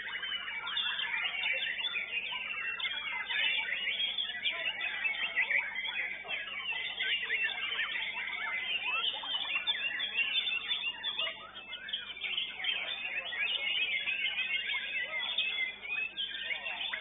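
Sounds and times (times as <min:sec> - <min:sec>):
songbirds singing together: 0:00.0 - 0:17.0.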